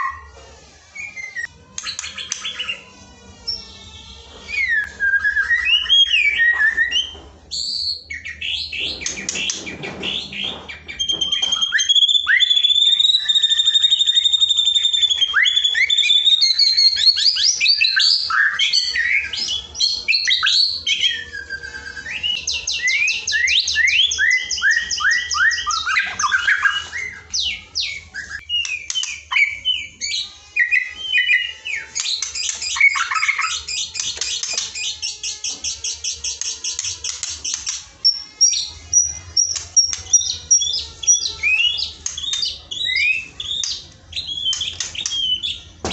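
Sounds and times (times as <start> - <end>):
recorded songbird song: 4.5 - 45.9.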